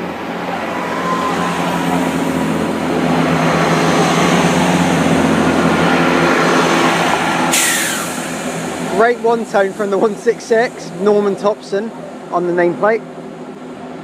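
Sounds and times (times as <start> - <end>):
train diesel engines droning: 0.0 - 14.0.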